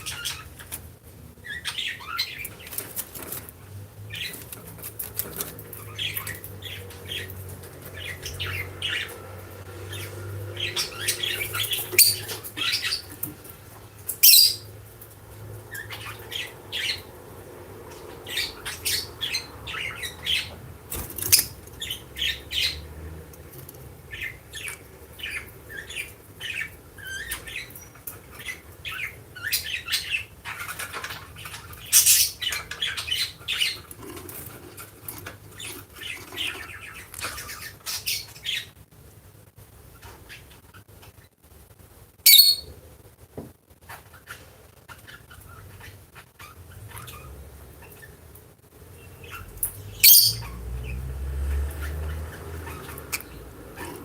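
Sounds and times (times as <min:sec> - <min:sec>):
lovebirds chirping and squawking: 0:00.0 - 0:38.9, 0:39.8 - 0:41.3, 0:42.2 - 0:42.8, 0:43.8 - 0:54.0.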